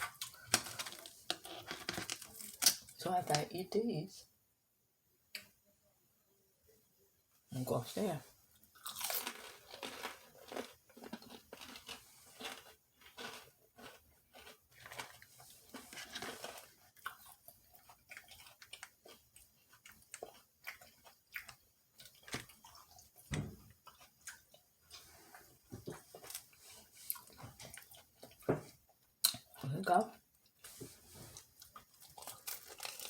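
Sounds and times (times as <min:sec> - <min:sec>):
chewing crispy food: 0:00.0 - 0:03.0, 0:08.6 - 0:33.0.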